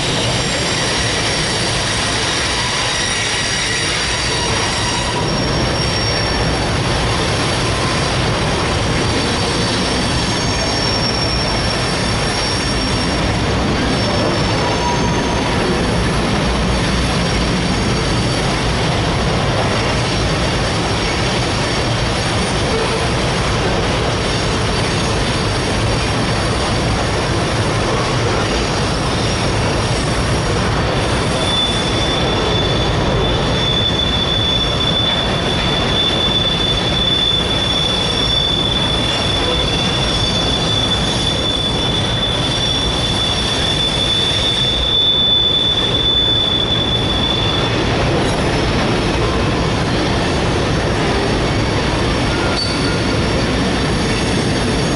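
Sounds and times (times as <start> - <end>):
high steady squeal: 0.0 - 21.6, 29.0 - 51.1, 52.2 - 54.9
train wheels rumbling on rail: 0.0 - 54.9.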